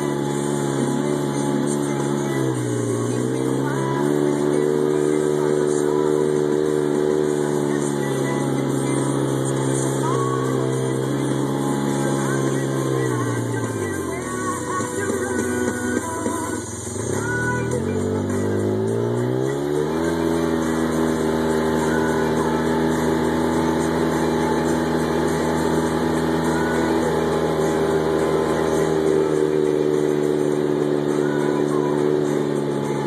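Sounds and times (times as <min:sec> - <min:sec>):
off-road vehicle engine accelerating: 0:00.0 - 0:33.0.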